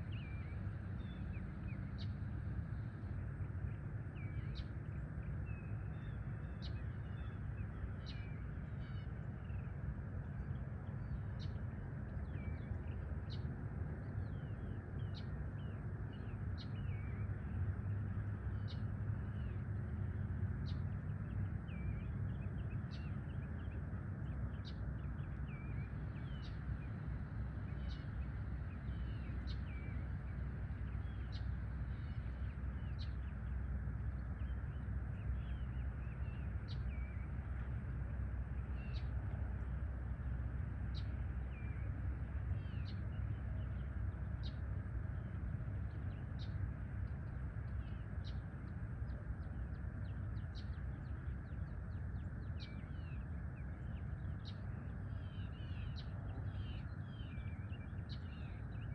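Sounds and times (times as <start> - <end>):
small birds chirping: 0.0 - 58.9
steady low rumble: 0.0 - 58.9.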